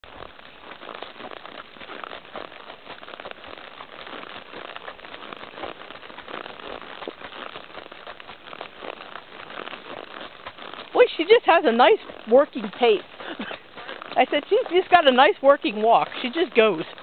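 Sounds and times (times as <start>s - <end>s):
horse hooves on gravel: 0.0s - 17.0s.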